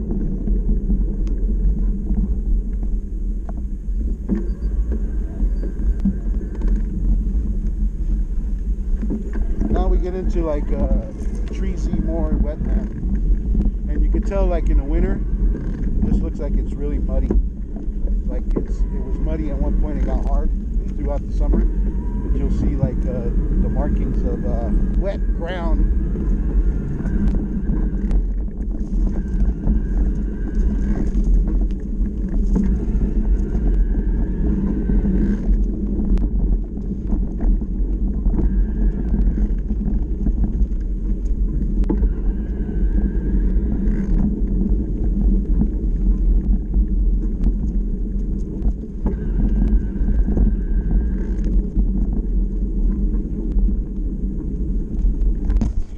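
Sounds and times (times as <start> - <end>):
bike rattles over bumps: 0.0 - 55.9
faint motor whine: 0.0 - 55.9
tyre and wind rumble: 0.0 - 55.9.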